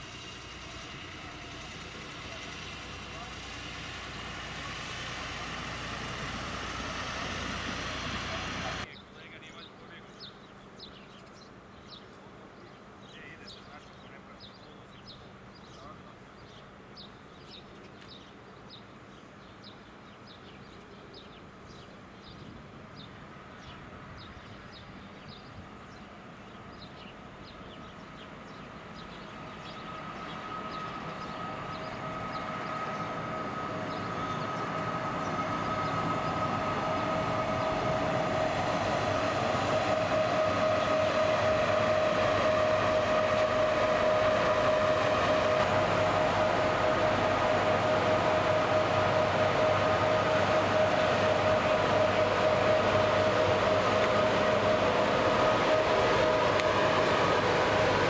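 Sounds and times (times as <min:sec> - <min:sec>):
train whine: 0:00.0 - 0:09.6, 0:20.7 - 0:58.0
train approaching: 0:00.0 - 0:13.5, 0:18.6 - 0:58.0.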